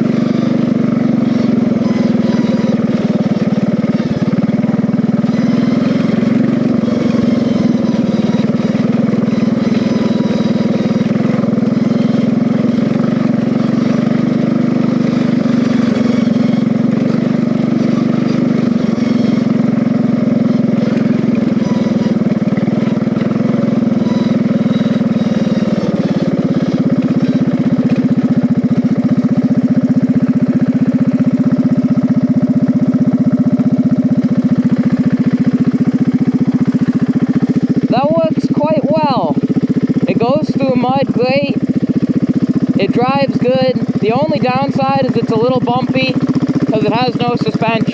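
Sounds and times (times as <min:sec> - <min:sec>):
riding lawn mower engine: 0:00.0 - 0:47.9.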